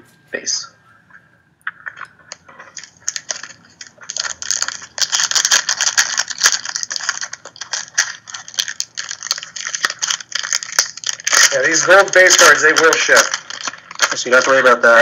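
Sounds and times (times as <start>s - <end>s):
foil wrapper crinkling and tearing: 1.9s - 15.0s.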